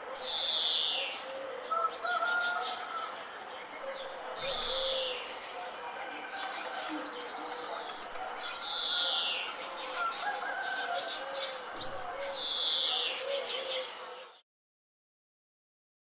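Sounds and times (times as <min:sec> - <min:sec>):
songbirds chirping: 0:00.0 - 0:14.4.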